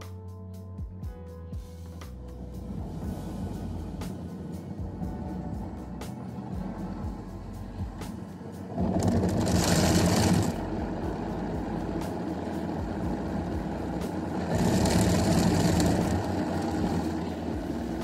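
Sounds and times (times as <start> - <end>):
loud hissing: 2.4 - 18.0
rotating brush on windscreen: 2.6 - 18.0
water spraying: 2.6 - 18.0.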